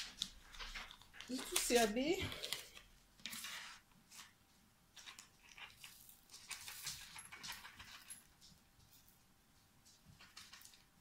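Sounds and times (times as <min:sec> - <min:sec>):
soft clicks and rustles: 0:00.0 - 0:11.0.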